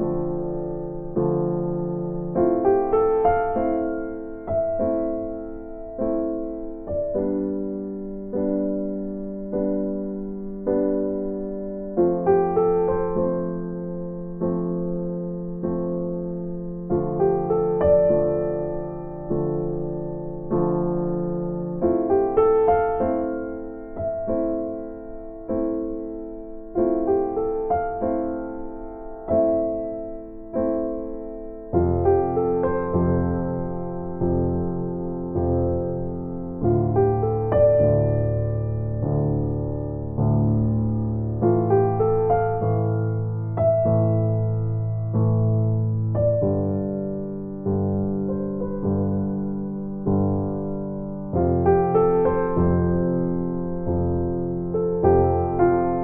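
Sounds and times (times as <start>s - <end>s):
electric piano slow chords: 0.0s - 56.0s.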